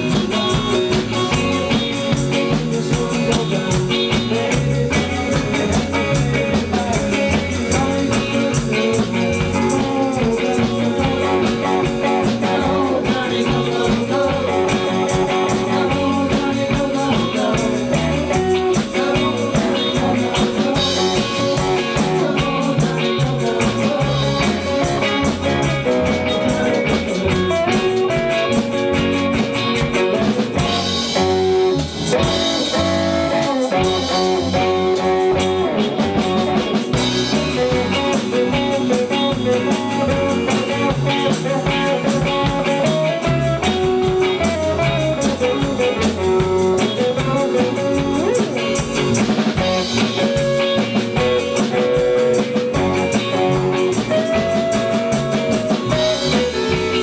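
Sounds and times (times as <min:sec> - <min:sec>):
bass guitar: 0:00.0 - 0:57.0
drum kit: 0:00.0 - 0:57.0
electric guitars: 0:00.0 - 0:57.0.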